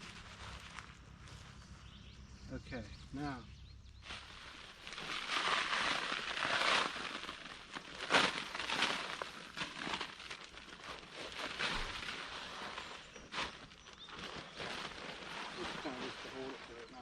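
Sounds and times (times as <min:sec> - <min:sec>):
rustling and crunching material: 0:00.0 - 0:17.0.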